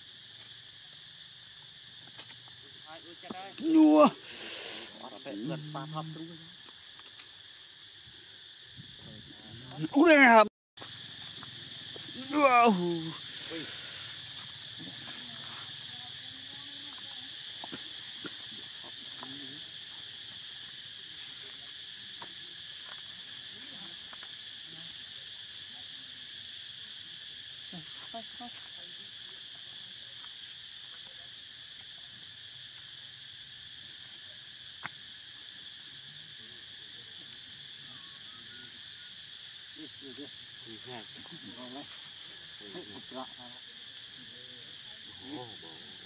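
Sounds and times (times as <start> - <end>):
insect chorus droning: 0.0 - 46.0.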